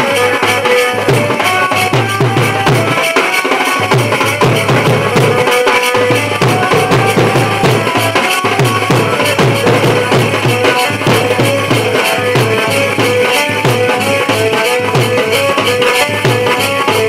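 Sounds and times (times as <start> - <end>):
held melody line: 0.0 - 17.0
bass drum and side drum: 1.0 - 17.0.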